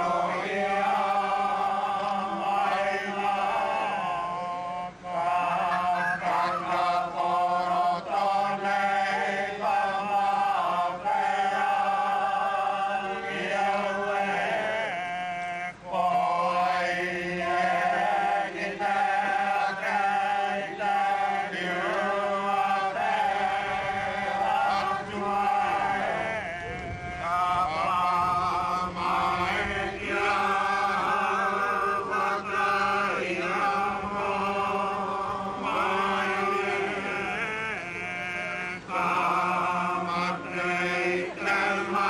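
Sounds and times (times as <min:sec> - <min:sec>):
steady low hum: 0:00.0 - 0:42.0
voices chanting: 0:00.0 - 0:42.0.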